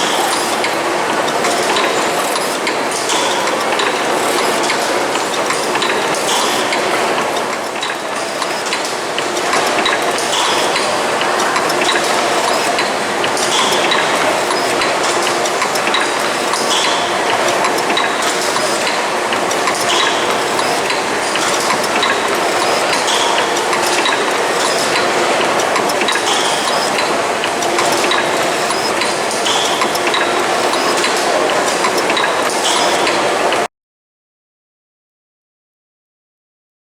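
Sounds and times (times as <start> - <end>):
steam engine mechanical clatter: 0.0 - 33.6.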